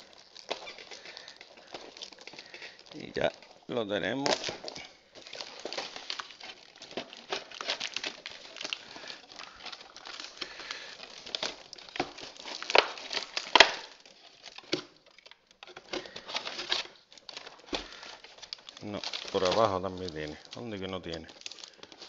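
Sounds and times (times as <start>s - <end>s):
packaging rustling and crinkling: 0.0s - 22.0s.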